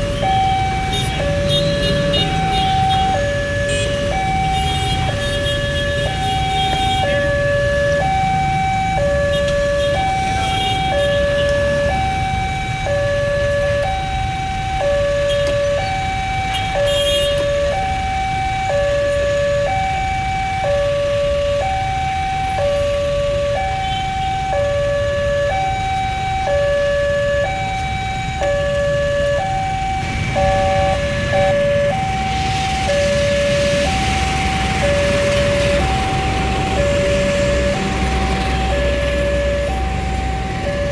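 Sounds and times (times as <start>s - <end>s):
level crossing two-tone alarm: 0.0s - 40.9s
road traffic rumble: 0.0s - 40.9s.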